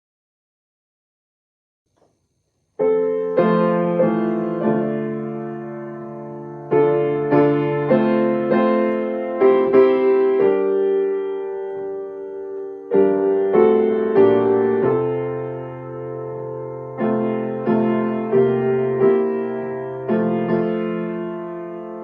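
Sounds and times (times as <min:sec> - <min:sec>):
piano playing slow chords: 0:02.8 - 0:22.0.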